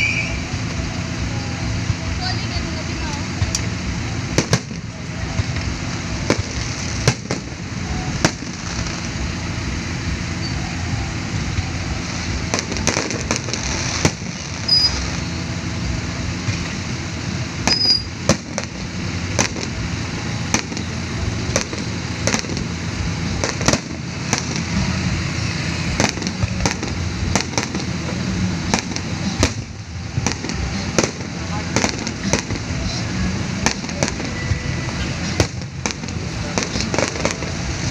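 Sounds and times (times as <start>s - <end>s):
background din: 0.0s - 37.9s
fireworks bursting: 0.0s - 37.9s.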